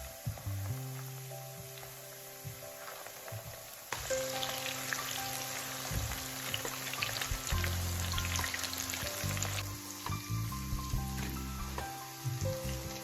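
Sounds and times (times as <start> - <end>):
patties sizzling in hot oil: 0.0 - 13.0.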